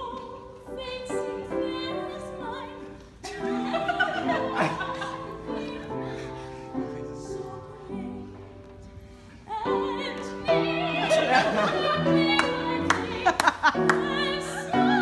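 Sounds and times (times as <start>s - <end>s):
operatic soprano singing: 0.0s - 8.7s, 9.4s - 15.0s
upright piano chords: 0.0s - 15.0s.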